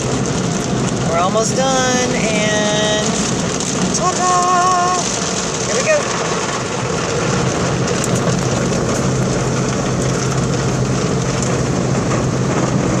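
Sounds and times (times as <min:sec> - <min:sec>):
car wash equipment rushing: 0:00.0 - 0:13.0.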